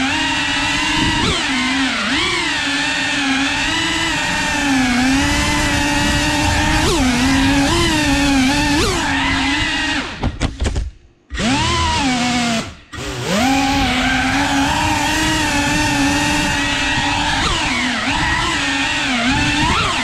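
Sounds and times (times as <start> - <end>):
drone motors whining: 0.0 - 10.7, 11.3 - 20.0.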